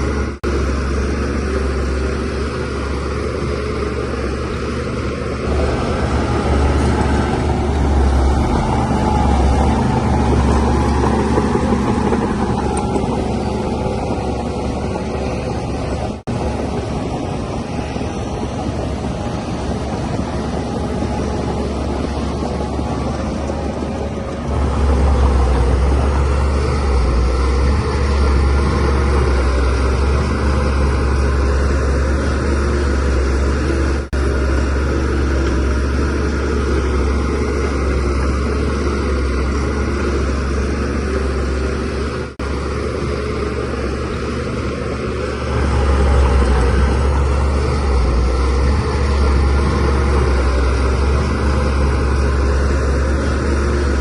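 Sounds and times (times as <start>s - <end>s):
bulldozer diesel engine rumbling: 0.0s - 54.0s.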